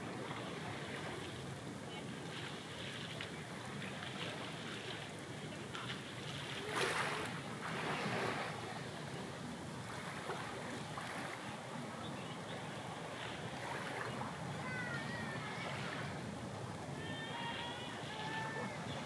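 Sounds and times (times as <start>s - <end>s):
sea waves washing in: 0.0s - 19.0s.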